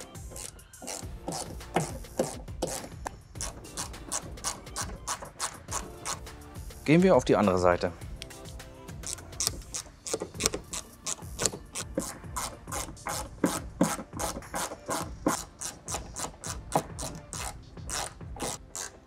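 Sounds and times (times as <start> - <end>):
hand ratchet clicking: 0.0 - 6.2, 9.0 - 19.0.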